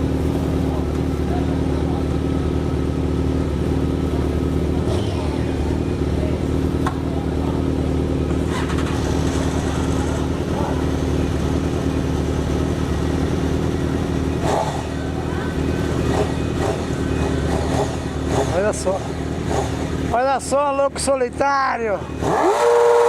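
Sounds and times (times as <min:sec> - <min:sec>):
motorcycle engine running steadily: 0:00.0 - 0:23.0
voices: 0:00.3 - 0:22.9.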